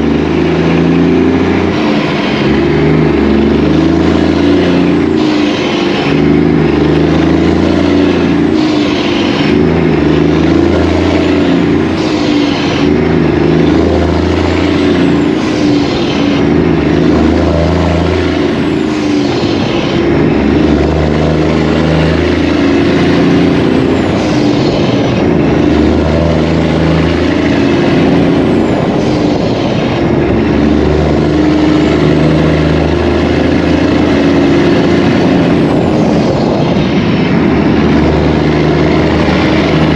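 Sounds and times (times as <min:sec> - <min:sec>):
rhythmic swishing: 0:00.0 - 0:39.9
truck engine and road drone: 0:00.0 - 0:39.9.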